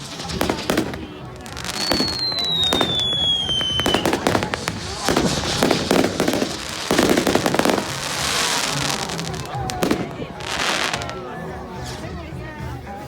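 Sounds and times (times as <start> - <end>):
firework whistle falling: 0.0 - 11.2
fireworks bangs and crackling: 0.0 - 13.0.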